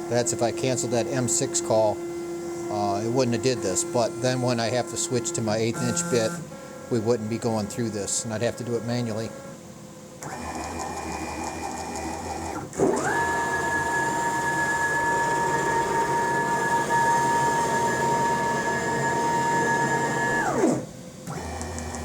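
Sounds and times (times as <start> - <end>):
stepper motors whining: 0.0 - 9.6, 10.2 - 22.0.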